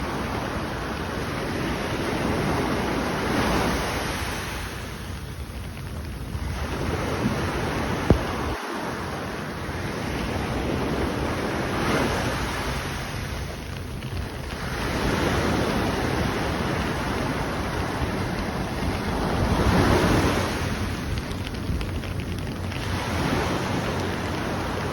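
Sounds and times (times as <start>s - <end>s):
surf breaking on a beach: 0.0s - 24.9s
wind buffeting the microphone: 0.0s - 24.9s.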